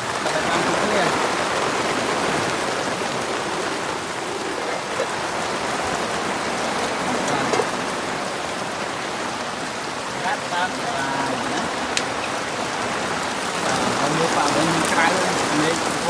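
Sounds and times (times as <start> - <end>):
drops ticking: 0.0 - 16.0
heavy rain falling: 0.0 - 16.0.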